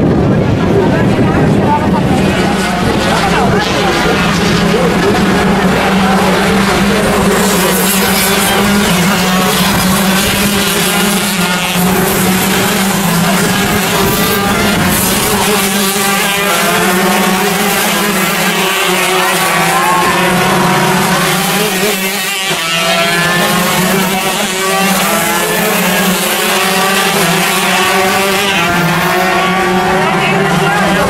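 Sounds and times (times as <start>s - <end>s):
kart engines racing past: 0.0s - 31.0s.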